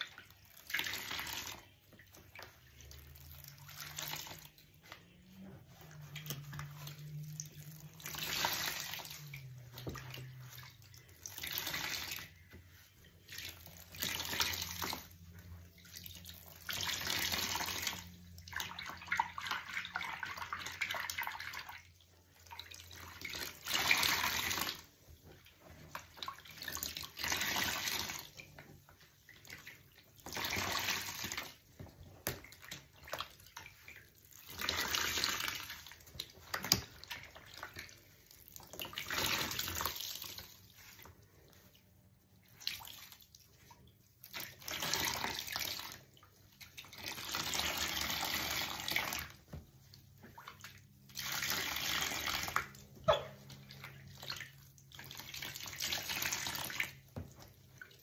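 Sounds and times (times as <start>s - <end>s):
water gushing into tub: 0.0s - 41.0s, 42.3s - 58.0s
water dripping: 0.0s - 58.0s.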